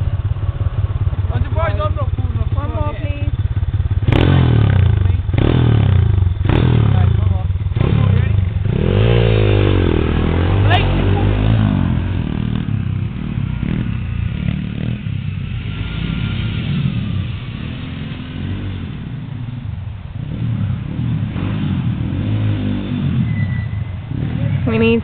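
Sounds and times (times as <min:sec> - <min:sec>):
off-road vehicle engine revving: 0:01.3 - 0:25.0.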